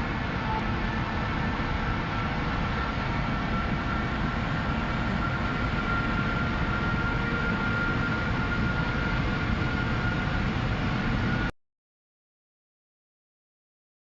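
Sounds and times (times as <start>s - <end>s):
car engine and road noise: 0.0s - 11.5s
steady whine: 0.0s - 11.5s.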